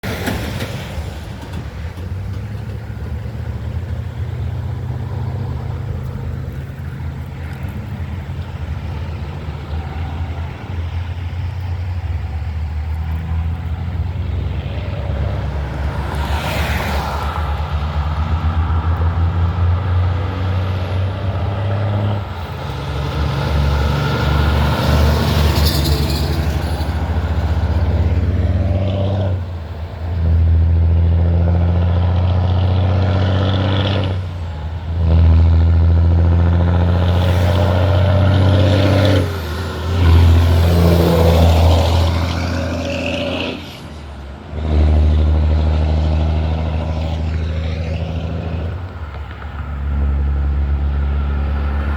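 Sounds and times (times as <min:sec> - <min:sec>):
truck diesel engines pulling away: 0:00.0 - 0:51.9.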